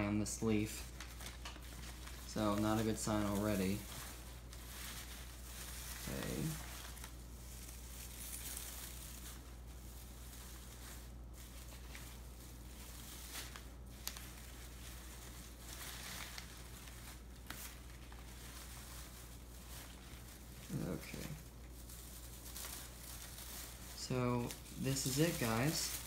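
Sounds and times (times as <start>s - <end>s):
paper and plastic rustling: 0.0s - 26.0s
sharp crackles: 0.5s - 26.0s.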